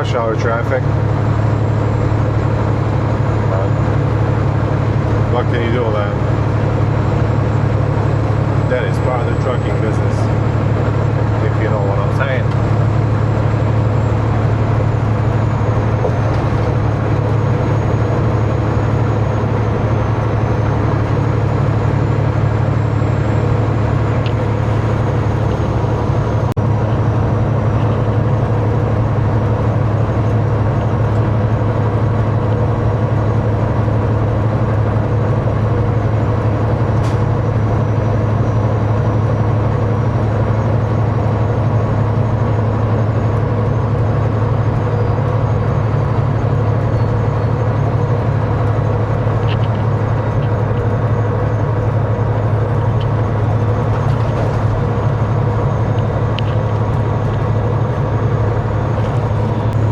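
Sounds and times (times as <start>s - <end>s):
road noise: 0.0s - 59.9s
truck engine drone: 0.0s - 59.9s.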